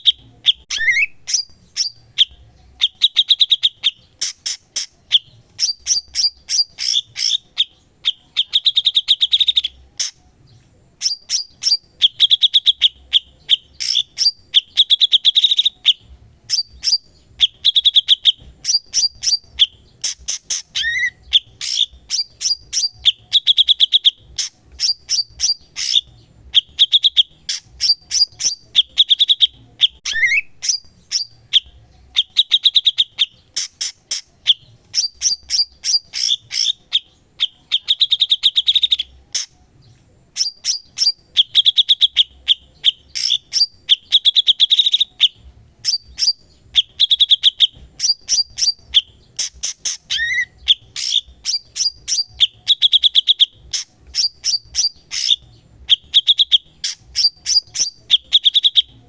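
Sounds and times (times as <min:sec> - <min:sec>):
songbird chattering trills: 0:00.0 - 0:59.0.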